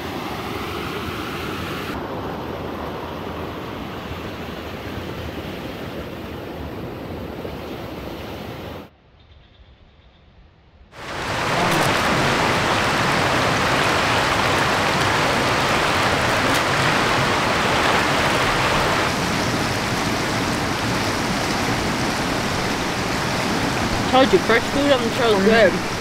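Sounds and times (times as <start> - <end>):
creek water rushing: 0.0 - 7.7, 11.0 - 26.0.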